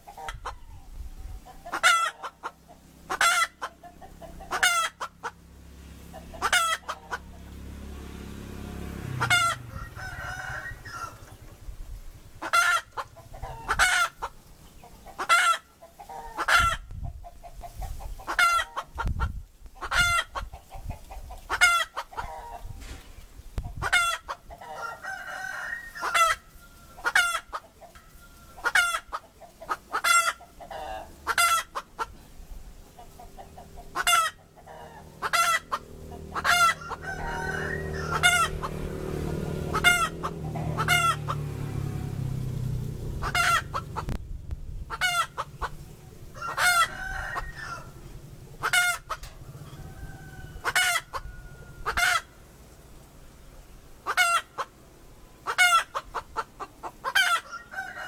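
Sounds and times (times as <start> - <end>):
hen clucking: 0.0 - 7.9, 9.0 - 52.6, 53.5 - 58.0.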